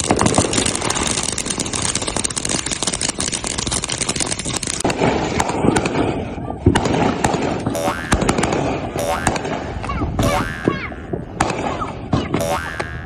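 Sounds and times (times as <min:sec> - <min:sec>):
firework hissing and crackling: 0:00.0 - 0:12.3.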